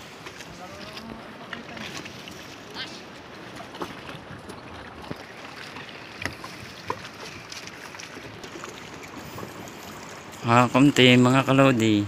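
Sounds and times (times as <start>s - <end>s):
water washing around boat: 0.0s - 12.0s
wind: 0.0s - 12.0s.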